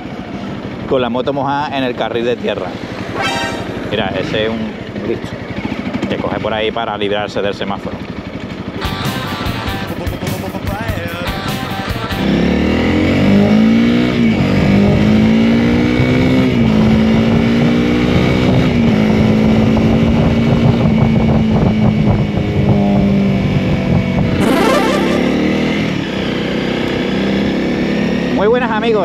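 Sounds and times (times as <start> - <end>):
motorcycle engine accelerating: 1.7 - 6.5, 8.2 - 29.0.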